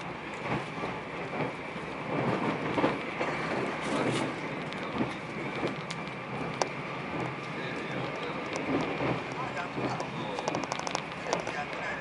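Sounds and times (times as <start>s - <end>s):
train rumble inside car: 0.0s - 12.0s.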